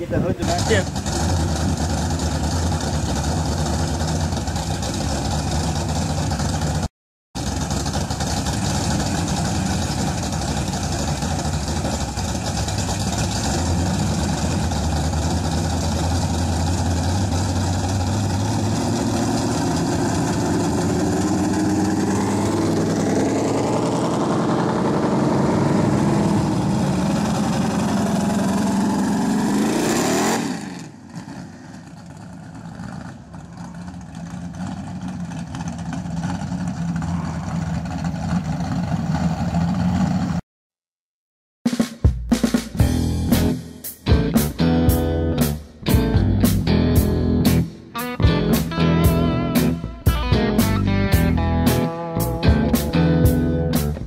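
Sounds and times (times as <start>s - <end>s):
car engine idling and revving: 0.0s - 40.4s, 42.8s - 54.0s.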